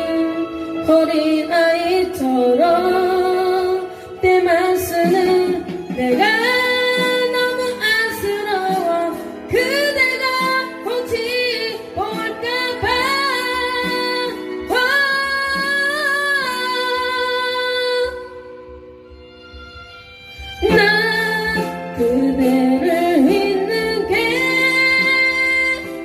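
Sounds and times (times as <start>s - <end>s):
woman singing a ballad: 0.0s - 18.8s, 20.5s - 26.0s
instrumental accompaniment: 0.0s - 26.0s.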